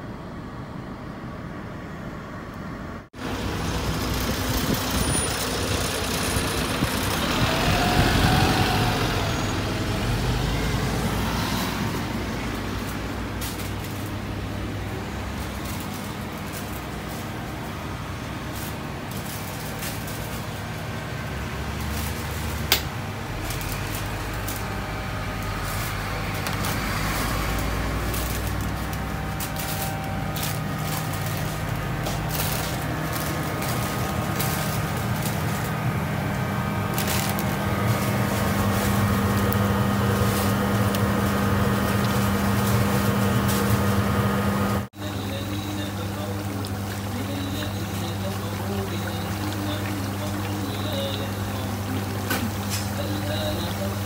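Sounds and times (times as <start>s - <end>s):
kitchen extraction hum: 0.0s - 54.0s.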